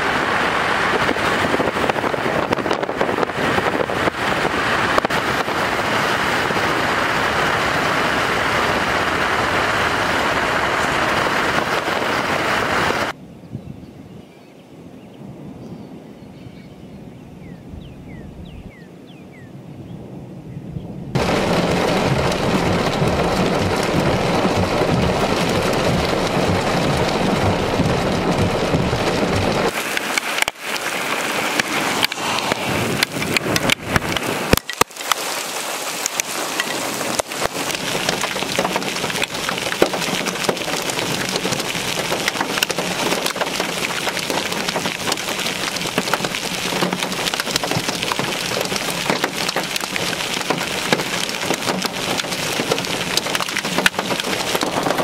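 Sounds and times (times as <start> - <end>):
hailstones clicking on ground: 0.0 - 13.2, 21.2 - 55.0
heavy rain pelting: 0.0 - 13.2, 21.2 - 55.0.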